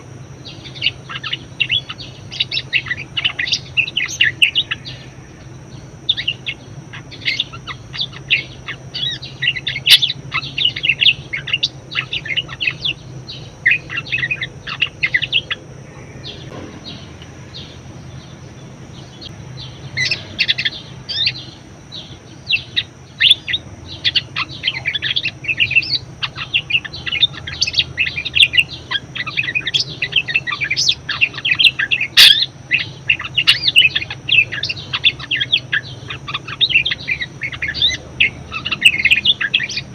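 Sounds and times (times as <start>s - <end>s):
budgerigar chattering: 0.0s - 17.7s, 19.1s - 39.9s.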